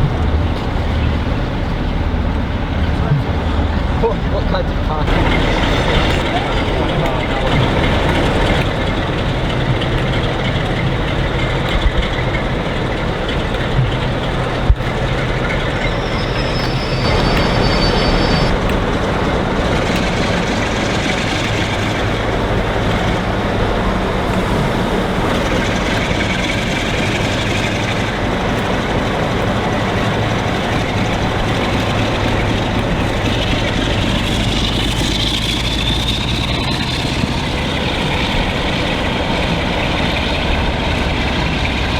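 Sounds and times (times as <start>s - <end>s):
train running on tracks: 0.0s - 41.9s.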